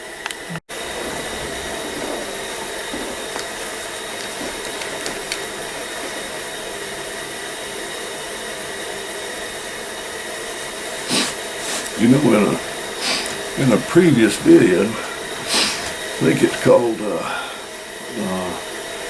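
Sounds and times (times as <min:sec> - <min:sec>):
gas heater burning with a hiss: 0:00.0 - 0:19.0.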